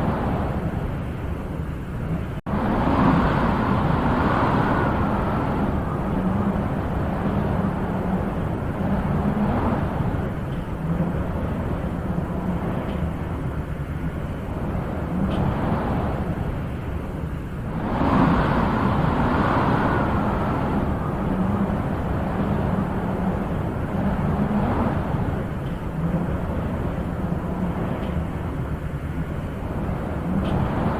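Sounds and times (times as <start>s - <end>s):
wind blowing in gusts: 0.0s - 30.9s.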